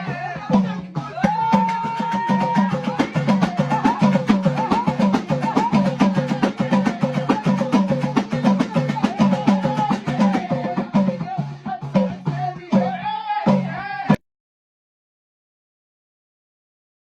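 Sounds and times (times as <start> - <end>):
drum and hand percussion: 0.0 - 14.2.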